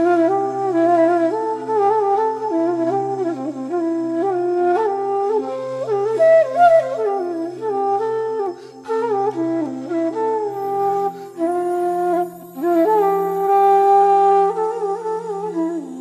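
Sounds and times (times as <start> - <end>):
flute melody: 0.0 - 16.0.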